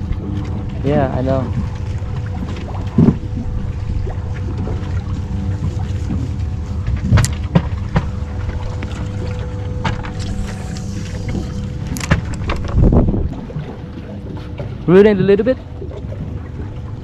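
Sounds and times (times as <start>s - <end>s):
constant hum: 0.0s - 17.0s
wind rumbling on microphone: 0.0s - 17.0s.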